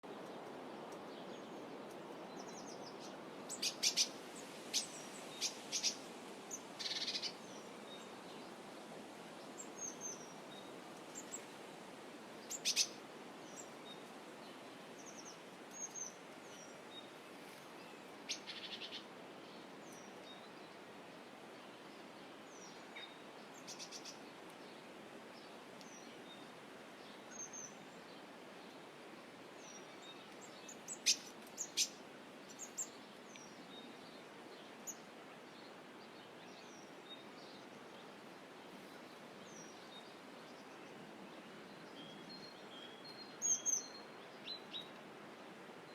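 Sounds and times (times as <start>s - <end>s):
steady soft hiss: 0.0s - 45.9s.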